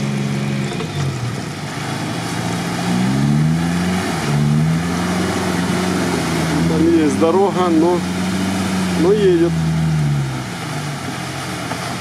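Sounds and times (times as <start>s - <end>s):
truck engine revving: 0.0s - 12.0s
water splashing: 0.0s - 12.0s.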